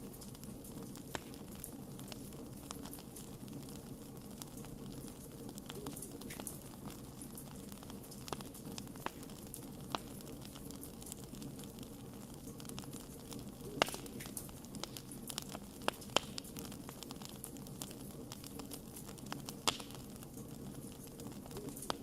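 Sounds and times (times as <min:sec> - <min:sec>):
campfire rushing: 0:00.0 - 0:22.0
fire popping and crackling: 0:00.0 - 0:22.0.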